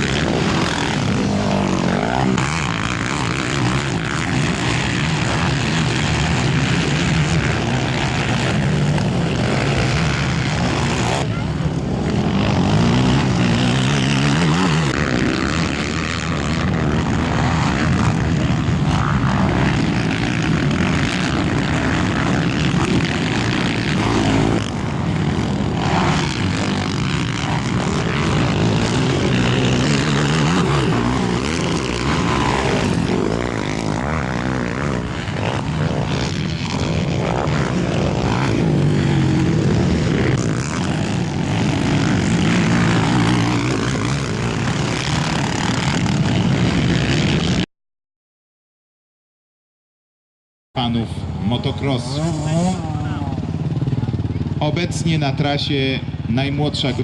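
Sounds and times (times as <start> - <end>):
quad engines revving: 0.0 - 47.6, 50.8 - 57.0.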